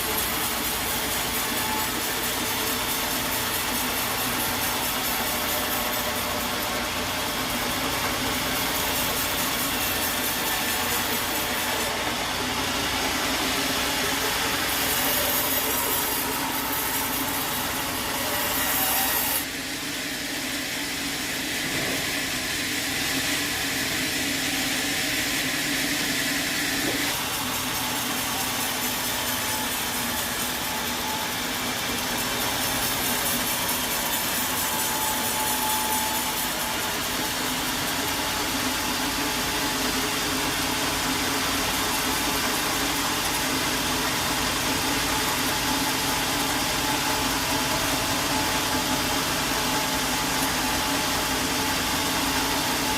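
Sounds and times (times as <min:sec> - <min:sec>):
saw cutting through wood: 0:00.0 - 0:52.9.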